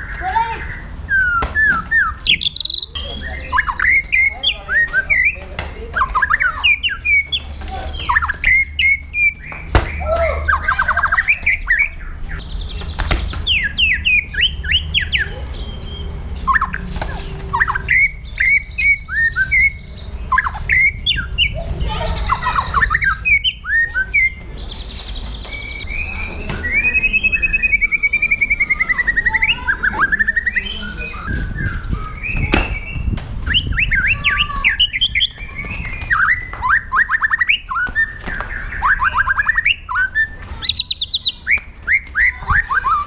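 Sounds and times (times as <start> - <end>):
bird singing whistles and chirps: 0.0 - 21.6, 22.7 - 43.0.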